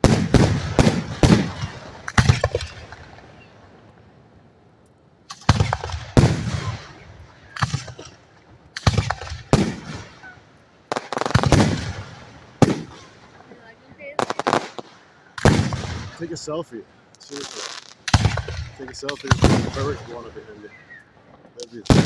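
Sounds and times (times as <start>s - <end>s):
fireworks booming overhead: 0.0s - 22.0s.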